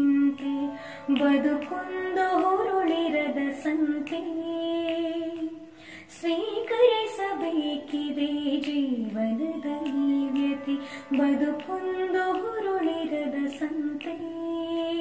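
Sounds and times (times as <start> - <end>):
woman singing slowly: 0.0 - 15.0.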